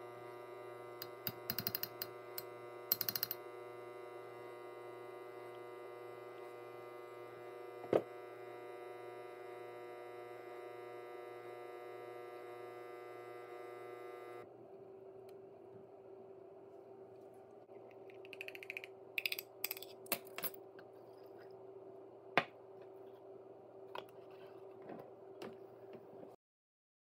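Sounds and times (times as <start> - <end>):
steady electrical hum: 0.0 - 26.3.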